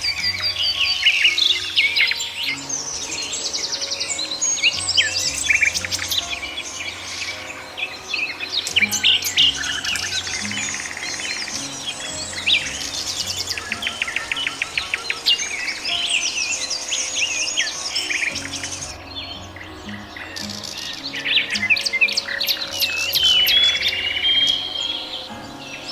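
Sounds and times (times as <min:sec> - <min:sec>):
faint background music: 0:00.0 - 0:25.9
small birds chirping: 0:00.0 - 0:25.9.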